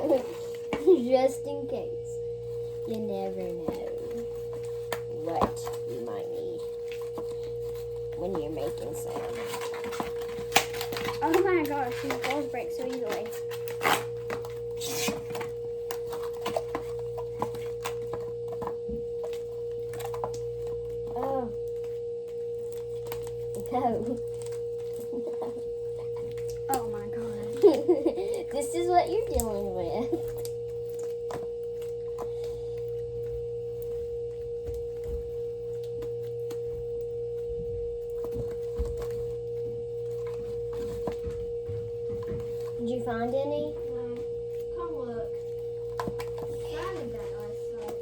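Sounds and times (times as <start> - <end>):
electrical whine: 0.0 - 48.0
steady pitched hum: 0.0 - 48.0
faint clicks and taps: 2.4 - 48.0.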